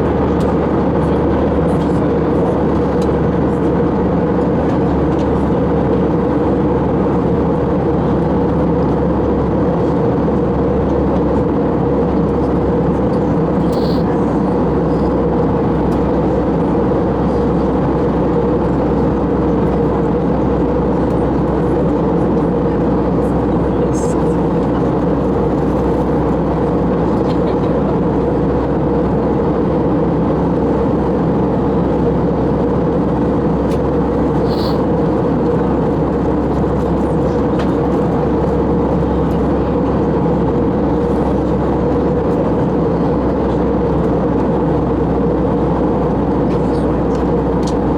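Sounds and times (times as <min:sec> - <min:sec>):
jet engines humming: 0:00.0 - 0:47.9.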